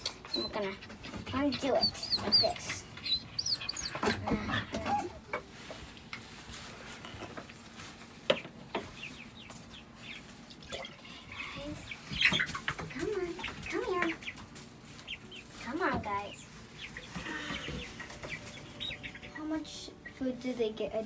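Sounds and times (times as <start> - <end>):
chicks cheeping: 0.0 - 21.0.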